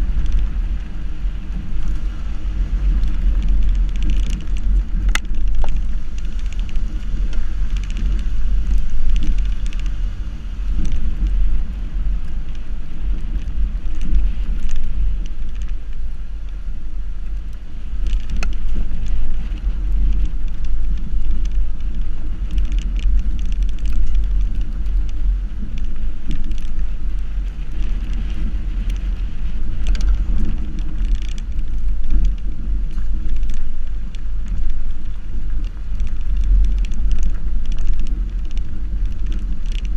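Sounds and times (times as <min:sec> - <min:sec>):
gravel clicking under tyres: 0:00.0 - 0:39.9
tyre and road rumble: 0:00.0 - 0:39.9.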